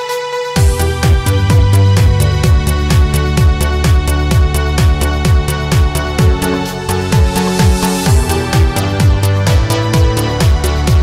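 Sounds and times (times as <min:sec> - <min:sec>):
electronic dance music: 0:00.0 - 0:11.0
hi-hats: 0:00.0 - 0:11.0
kick drum: 0:00.6 - 0:11.0
sustained synth chords: 0:00.6 - 0:11.0.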